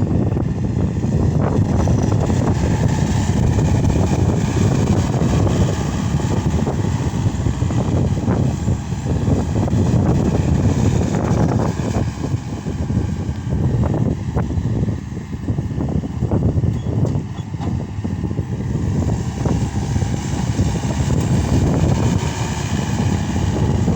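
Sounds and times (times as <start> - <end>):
diesel engine running under load: 0.0 - 23.9.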